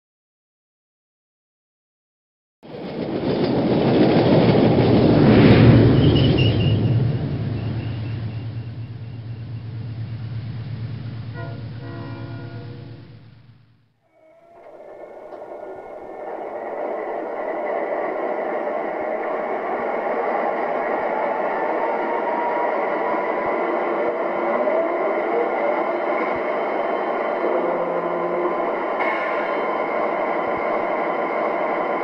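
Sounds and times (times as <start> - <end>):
model locomotive diesel sound: 2.6 - 32.0.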